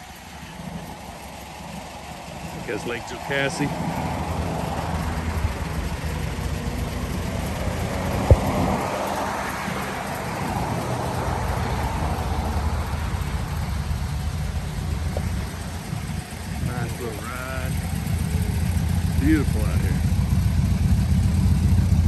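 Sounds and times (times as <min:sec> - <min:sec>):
van engine idling: 0:00.0 - 0:22.0.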